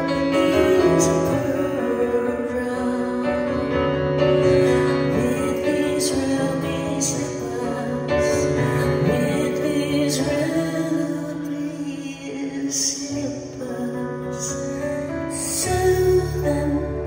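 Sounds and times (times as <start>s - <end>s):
grand piano: 0.0s - 17.0s
woman singing: 0.0s - 17.0s.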